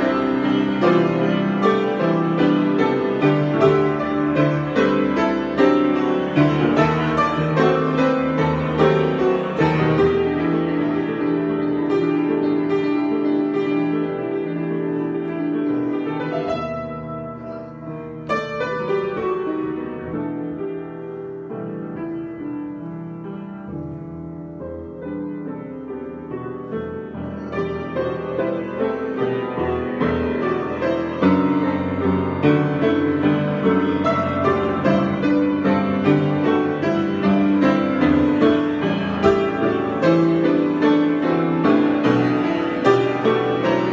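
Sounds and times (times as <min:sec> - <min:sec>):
piano chords: 0:00.0 - 0:43.9.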